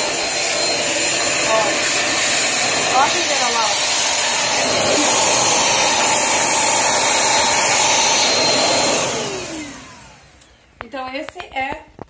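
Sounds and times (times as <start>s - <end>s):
vacuum motor winding down: 0.0s - 10.9s
vacuum cleaner running: 0.0s - 11.1s.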